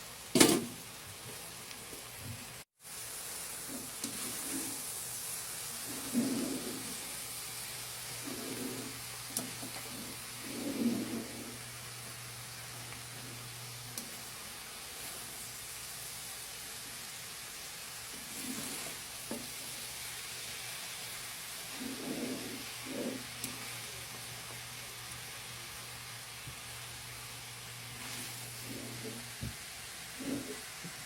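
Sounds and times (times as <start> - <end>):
vegetables sizzling in a pan: 0.0 - 31.0
stirring in a pan: 0.4 - 26.7, 27.6 - 31.0.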